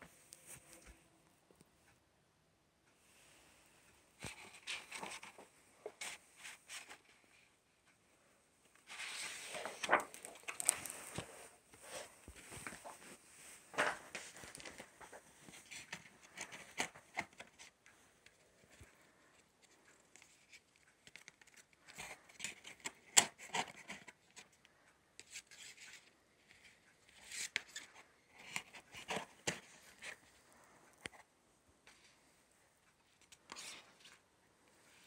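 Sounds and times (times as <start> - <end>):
rustling and sliding of card: 3.0 - 7.5, 8.7 - 24.5, 25.2 - 31.2, 31.8 - 35.0.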